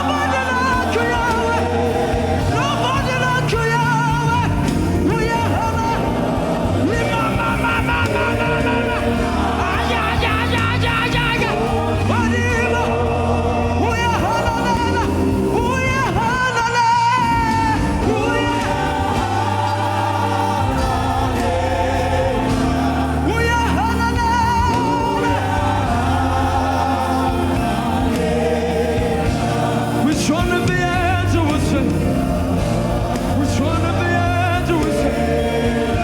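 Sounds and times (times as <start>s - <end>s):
band accompaniment: 0.0s - 36.0s
bass line: 0.0s - 36.0s
gospel singing: 0.0s - 36.0s.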